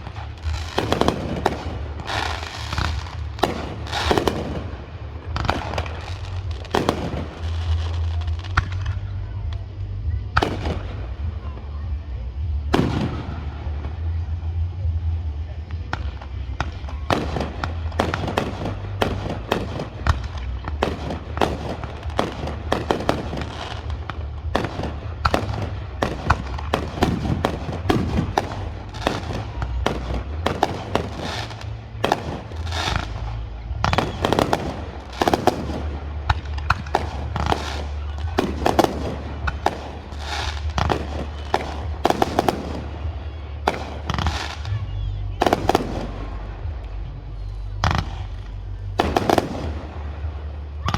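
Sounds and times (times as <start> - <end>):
fireworks bangs and crackling: 0.0 - 50.9
low rumble: 0.0 - 50.9.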